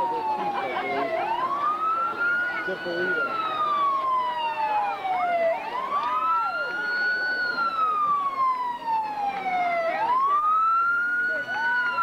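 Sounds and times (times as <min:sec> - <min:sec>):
fainter siren tone: 0:00.0 - 0:12.0
fire engine siren wailing: 0:00.0 - 0:12.0.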